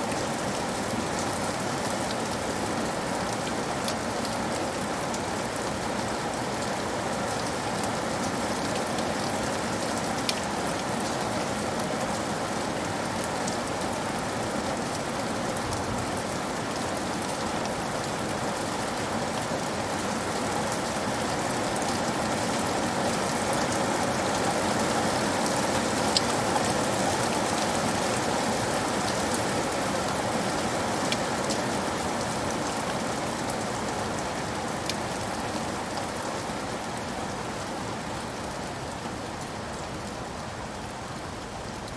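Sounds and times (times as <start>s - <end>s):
rain patter: 0.0s - 41.9s.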